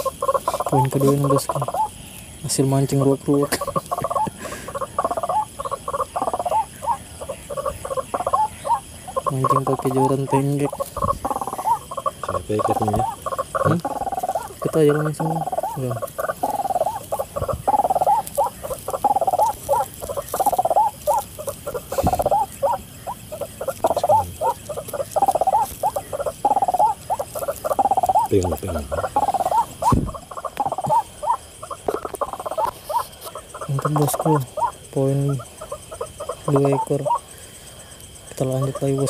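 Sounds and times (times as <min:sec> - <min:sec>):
waterhen croaking calls: 0:00.0 - 0:39.0.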